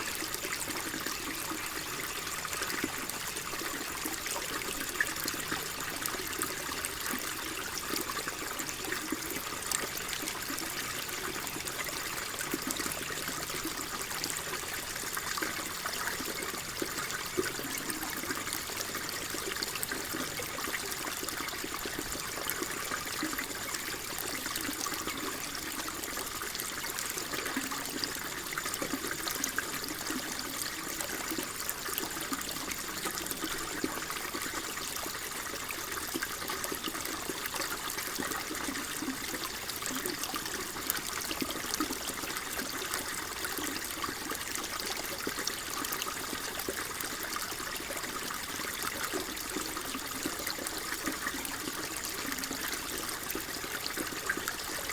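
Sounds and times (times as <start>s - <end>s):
water flowing and trickling: 0.0s - 54.9s.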